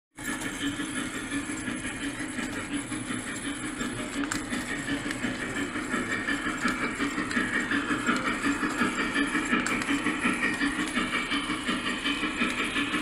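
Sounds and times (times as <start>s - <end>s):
model train running: 0.2s - 13.0s.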